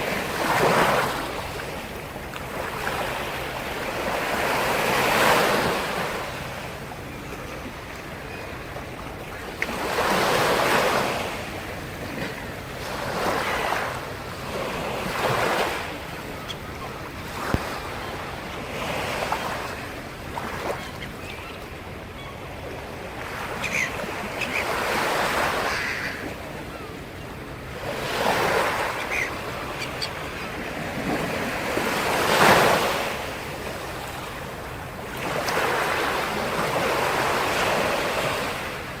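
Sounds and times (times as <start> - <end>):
waves breaking and washing in: 0.0 - 39.0.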